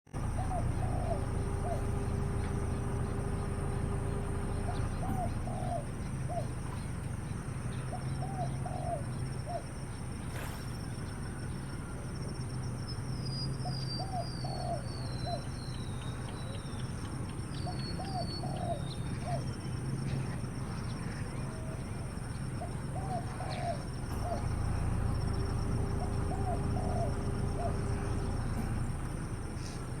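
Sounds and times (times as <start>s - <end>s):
bird calling low arched notes: 0.1s - 30.0s
steady low hum: 0.1s - 30.0s
dove cooing: 0.2s - 12.0s, 13.6s - 15.5s, 17.6s - 30.0s.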